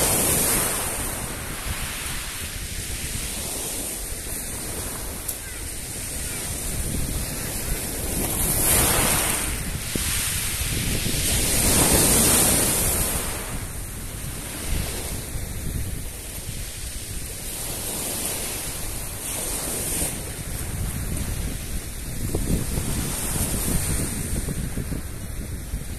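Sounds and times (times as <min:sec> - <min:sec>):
small waves breaking on shore: 0:00.0 - 0:25.9
wind on microphone: 0:00.0 - 0:25.9.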